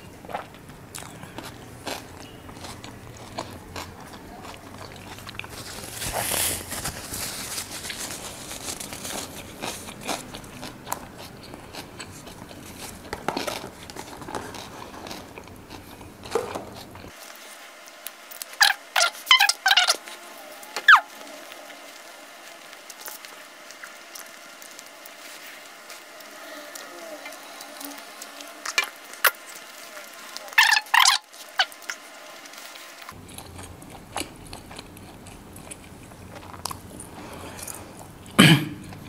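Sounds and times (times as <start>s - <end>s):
person chewing food: 0.1s - 20.2s, 21.7s - 39.0s.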